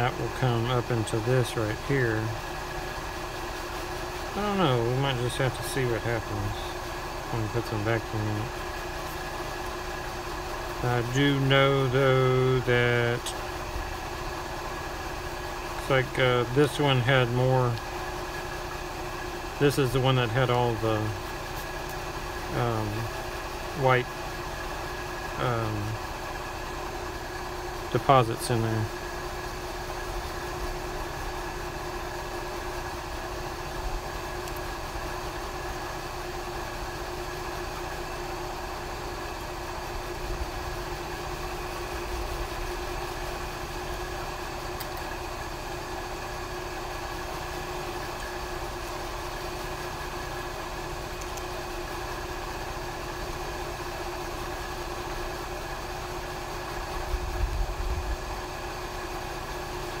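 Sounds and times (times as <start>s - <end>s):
steady machine hum: 0.0s - 60.0s.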